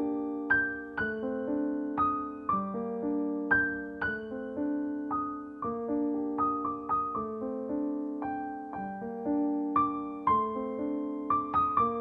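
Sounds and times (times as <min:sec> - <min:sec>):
gentle solo piano melody: 0:00.0 - 0:12.0.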